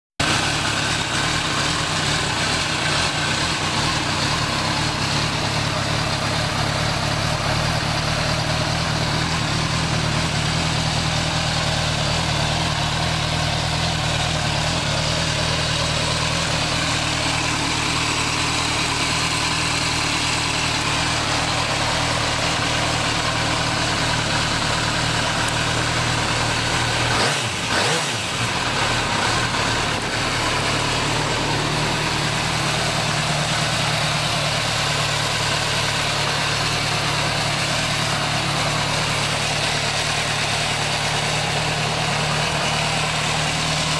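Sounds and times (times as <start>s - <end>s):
motorcycle engine idling: 0.2s - 43.9s.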